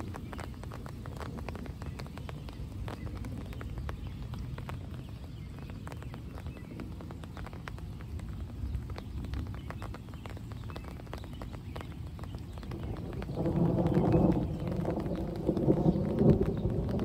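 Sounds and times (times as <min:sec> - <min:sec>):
raindrops pattering: 0:00.0 - 0:17.0.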